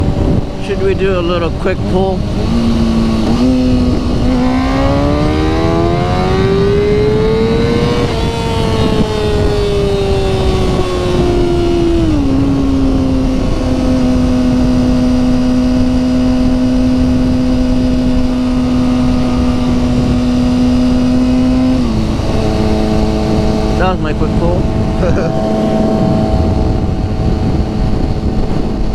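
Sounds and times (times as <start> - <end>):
motorcycle engine accelerating: 0.0 - 28.9
wind noise: 0.0 - 28.9.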